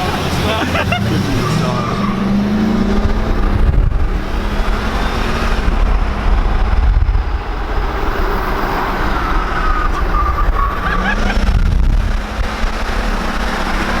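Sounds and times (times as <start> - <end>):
low engine tone: 0.0 - 14.0
pickup truck driving at speed: 0.0 - 14.0.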